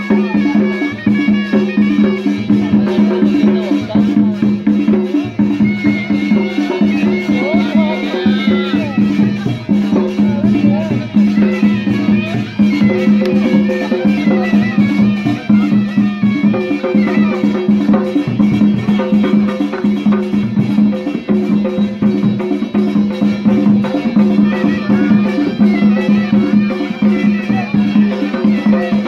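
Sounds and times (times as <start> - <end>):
quick even drumbeat: 0.0 - 29.0
reedy pipe melody: 0.0 - 29.0.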